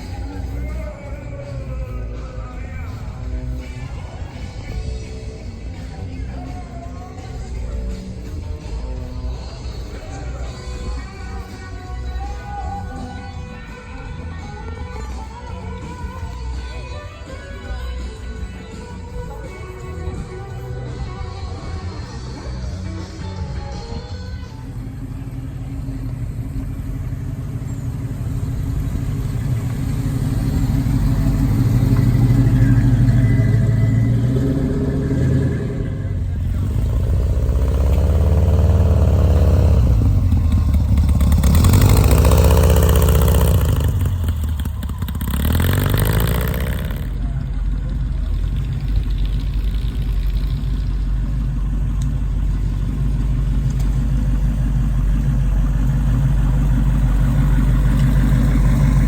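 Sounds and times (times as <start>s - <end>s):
vehicle engine revving: 0.0s - 59.0s.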